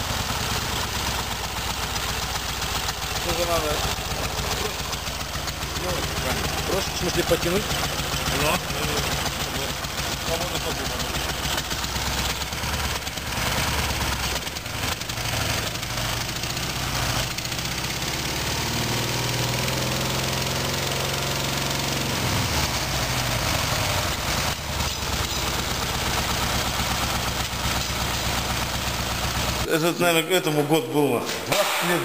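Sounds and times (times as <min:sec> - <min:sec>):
motorcycle engine running: 0:00.0 - 0:30.6.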